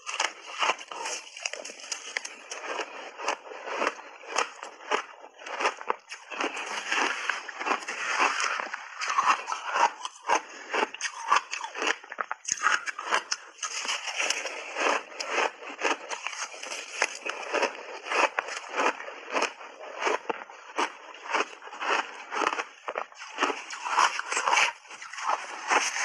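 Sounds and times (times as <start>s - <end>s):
ice crunching in mouth: 0.0s - 26.0s.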